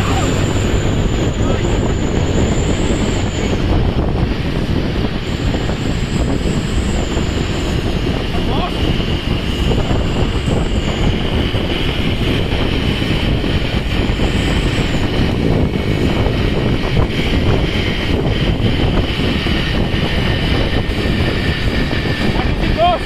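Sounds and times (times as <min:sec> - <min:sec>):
road noise: 0:00.0 - 0:23.0
truck engine rumbling: 0:00.0 - 0:23.0.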